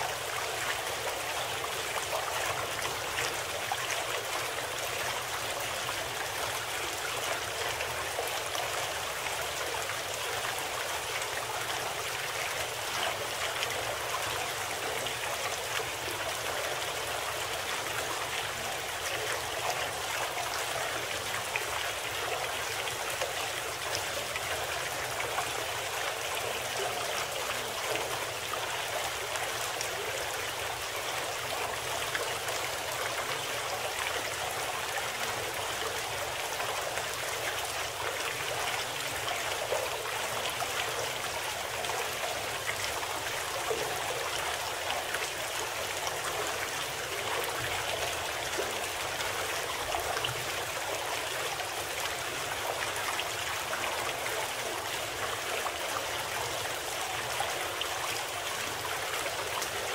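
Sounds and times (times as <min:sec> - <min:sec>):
flowing water: 0:00.0 - 0:59.9.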